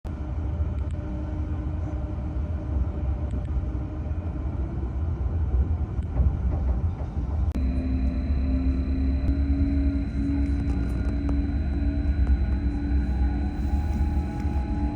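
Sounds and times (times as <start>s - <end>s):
faint hum: 0.1s - 14.9s
passenger train rumble: 0.1s - 14.9s.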